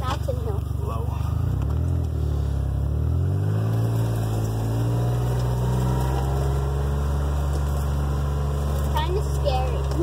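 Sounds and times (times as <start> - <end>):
utility vehicle engine running: 0.0 - 10.0.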